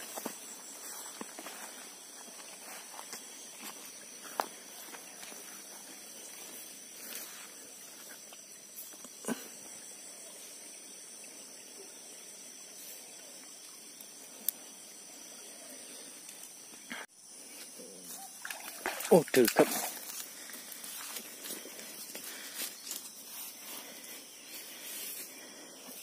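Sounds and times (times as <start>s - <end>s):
insect chorus trilling: 0.0s - 26.0s.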